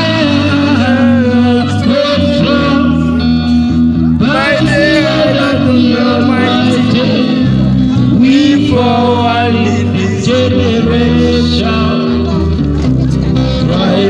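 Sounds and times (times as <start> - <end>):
acoustic guitar strumming: 0.0 - 14.0
low bass line: 0.0 - 14.0
man singing: 0.0 - 14.0.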